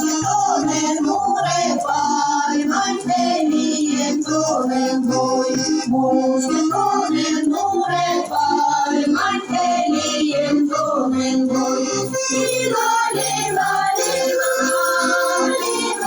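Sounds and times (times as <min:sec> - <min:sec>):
voices singing: 0:00.0 - 0:16.0.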